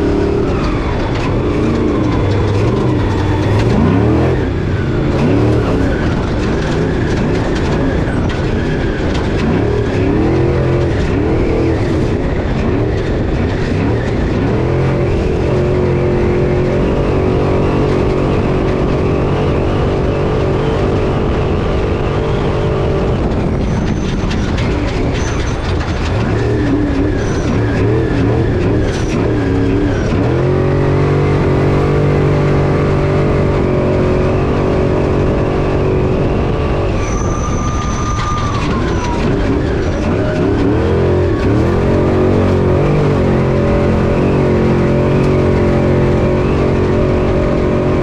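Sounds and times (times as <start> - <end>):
chassis knocking and rattling: 0.0 - 48.0
truck engine revving: 0.0 - 48.0.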